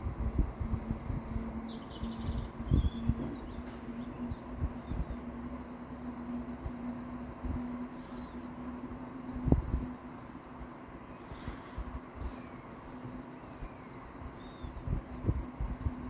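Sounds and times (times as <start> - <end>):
small birds chirping: 0.0 - 16.0
steady hum: 0.0 - 16.0.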